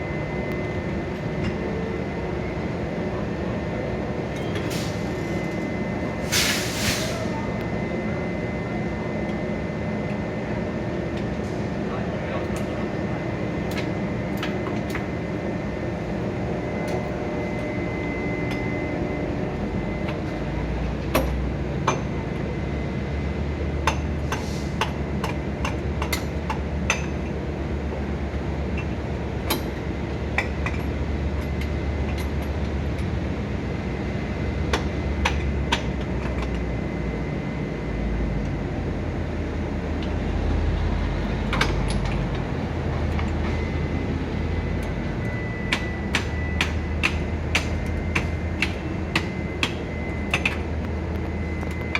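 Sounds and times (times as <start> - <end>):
thin steady whine: 0.0 - 24.2, 26.7 - 51.9
locomotive machinery humming: 0.0 - 51.9.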